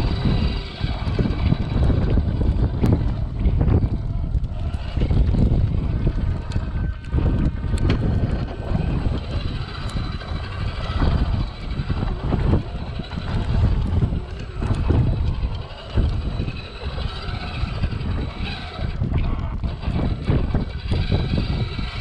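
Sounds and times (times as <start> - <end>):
low rumble on microphone: 0.0 - 22.0
small electric motor whining: 0.0 - 22.0.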